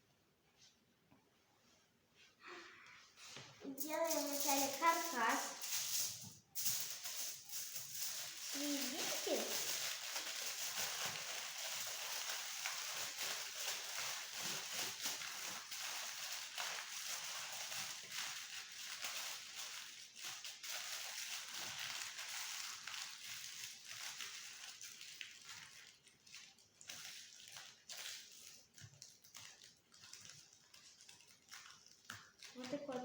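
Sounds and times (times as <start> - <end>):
foil crinkling: 3.8 - 33.0.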